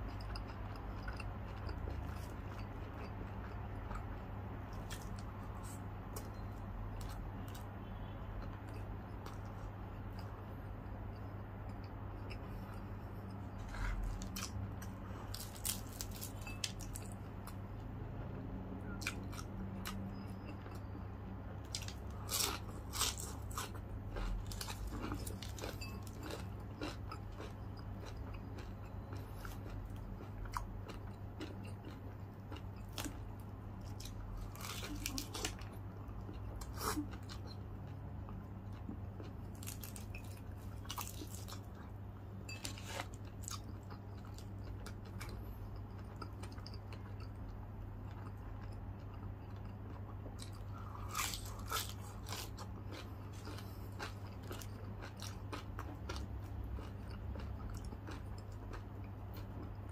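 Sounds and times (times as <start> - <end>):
chewing crispy fried chicken: 0.0 - 59.9.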